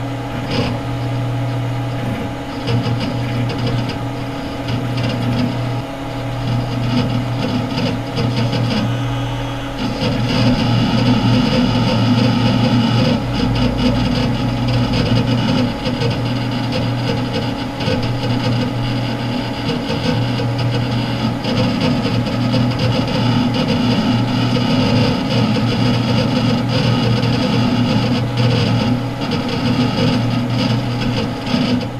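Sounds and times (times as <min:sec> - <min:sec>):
computer fans humming: 0:00.0 - 0:31.9.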